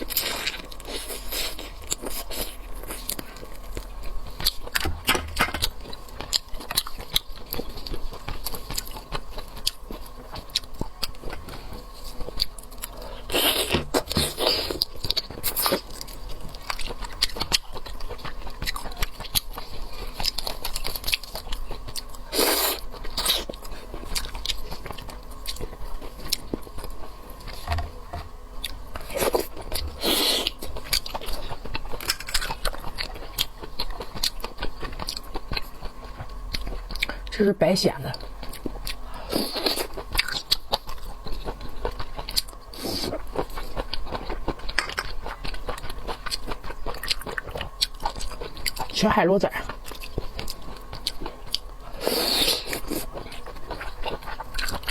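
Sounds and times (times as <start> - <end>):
chewing seafood close up: 0.0 - 54.9.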